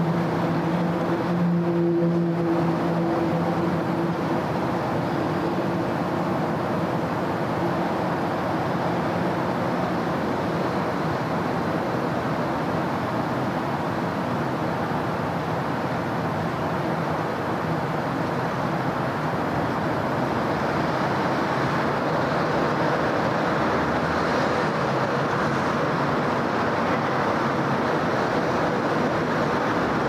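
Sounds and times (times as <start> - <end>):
city road traffic: 0.0 - 30.0.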